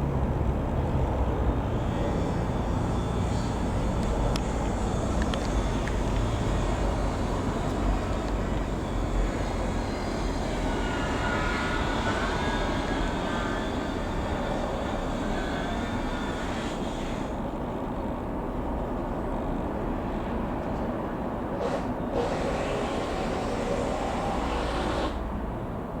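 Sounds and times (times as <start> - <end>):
light aircraft engine droning: 0.0 - 26.0.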